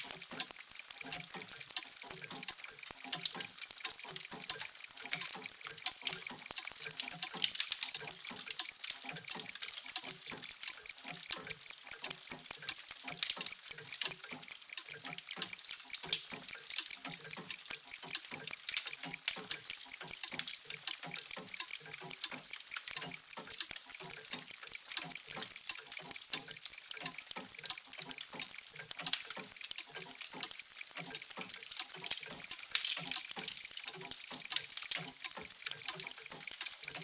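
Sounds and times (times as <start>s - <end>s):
many clocks ticking: 0.0s - 37.0s.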